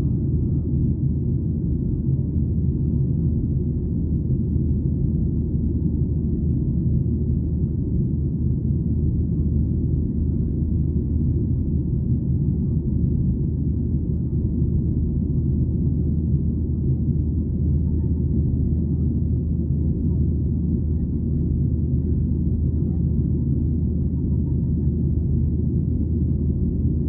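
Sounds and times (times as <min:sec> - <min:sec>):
airplane cabin rumble: 0:00.0 - 0:27.0.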